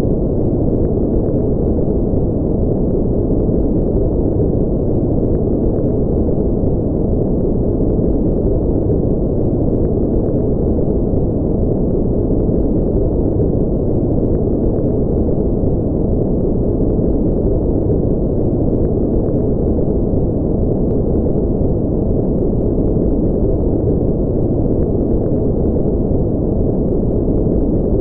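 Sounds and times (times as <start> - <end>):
deep muffled brown noise: 0.0 - 28.0.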